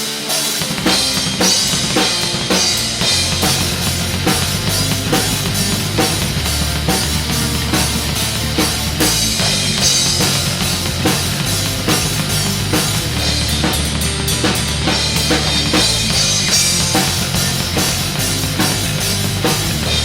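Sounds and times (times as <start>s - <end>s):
black metal band: 0.0s - 20.0s
drum kit beat: 0.0s - 20.0s
low bass notes: 0.8s - 20.0s.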